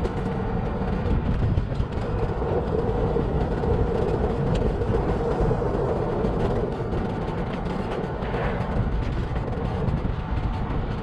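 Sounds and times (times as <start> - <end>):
gravel clicks: 0.0 - 11.0
vehicle engine and tyres rumbling: 0.0 - 11.0.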